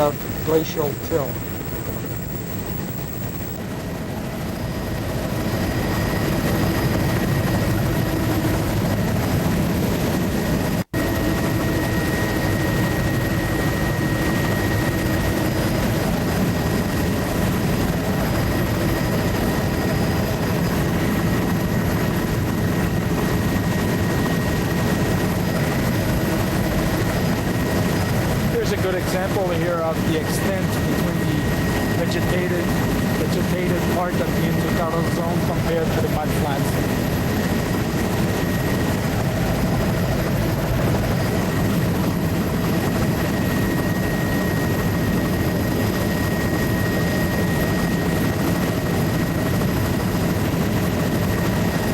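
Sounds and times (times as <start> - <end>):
aircraft engine drone in cabin: 0.0 - 51.9.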